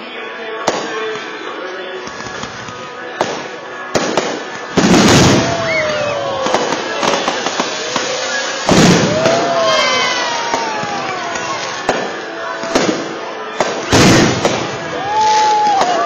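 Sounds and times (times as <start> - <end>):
fireworks bursting: 0.6 - 16.0.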